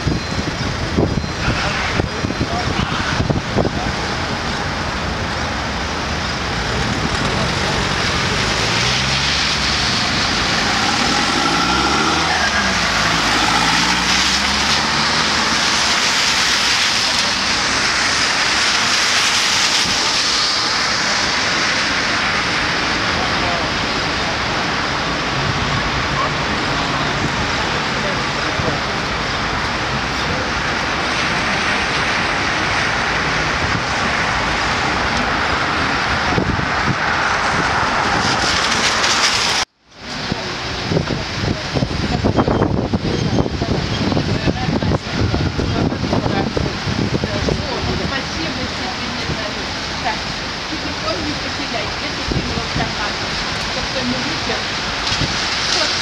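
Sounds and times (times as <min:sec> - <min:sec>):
car engines running: 0:00.0 - 0:56.0
tyres hissing on wet road: 0:00.0 - 0:56.0.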